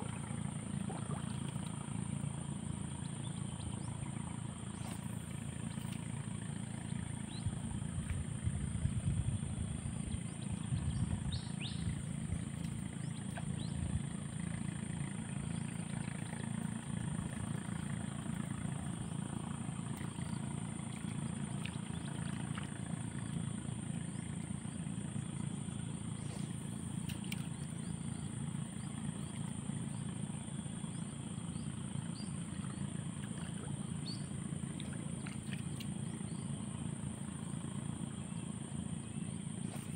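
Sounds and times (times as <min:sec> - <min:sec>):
low rumble: 0:00.0 - 0:37.7
faint chirps: 0:00.0 - 0:39.9.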